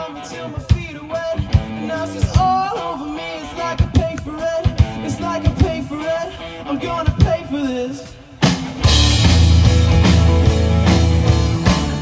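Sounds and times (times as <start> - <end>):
guitar: 0.0 - 12.0
drum kit: 0.2 - 12.0.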